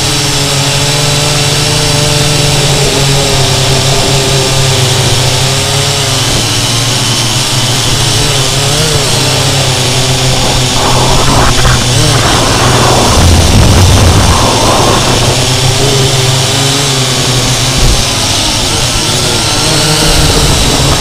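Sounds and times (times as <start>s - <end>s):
drone motors and propellers buzzing: 0.0s - 21.0s.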